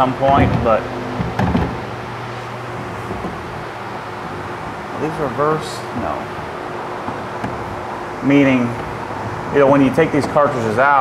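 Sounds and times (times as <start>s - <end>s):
electric fans blowing: 0.0s - 11.0s
low hum: 0.2s - 10.0s.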